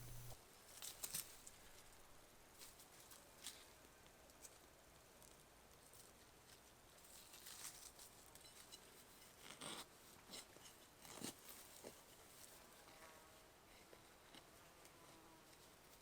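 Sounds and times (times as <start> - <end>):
faint rustling and scraping: 0.0 - 16.0.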